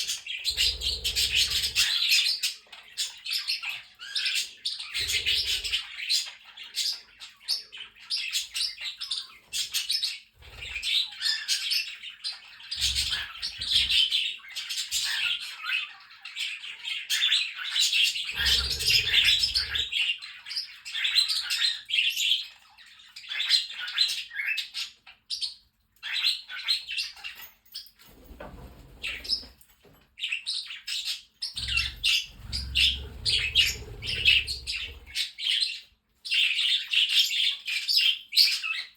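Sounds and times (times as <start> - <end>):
budgerigars chattering and warbling: 0.0 - 27.5, 30.2 - 38.9
small parrots chirping: 0.0 - 28.0, 30.3 - 38.9.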